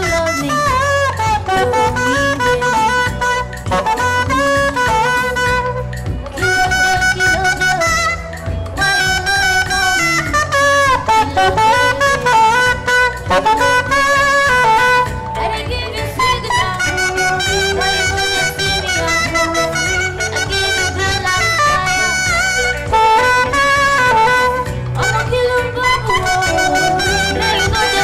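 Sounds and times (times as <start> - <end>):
melodic lead line with sliding notes: 0.0 - 28.0
steady bass: 0.0 - 28.0.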